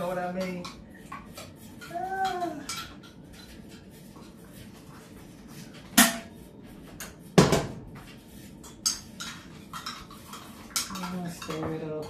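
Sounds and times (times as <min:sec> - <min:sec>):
dishes and utensils clattering: 0:00.0 - 0:12.0.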